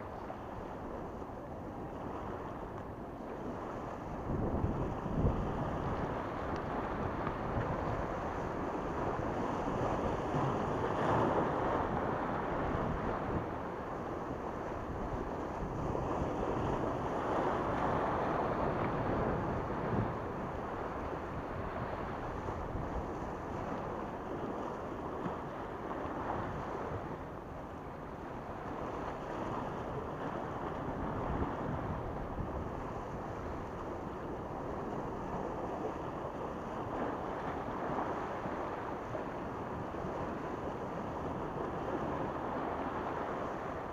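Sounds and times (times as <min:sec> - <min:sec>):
wind rumbling on microphone: 0:00.0 - 0:43.9.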